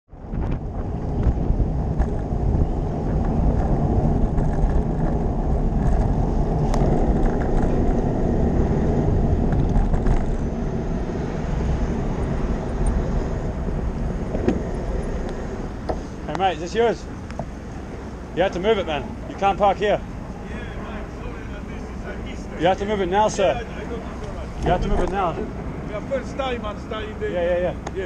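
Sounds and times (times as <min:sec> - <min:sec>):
wind and road rumble: 0:00.1 - 0:28.0.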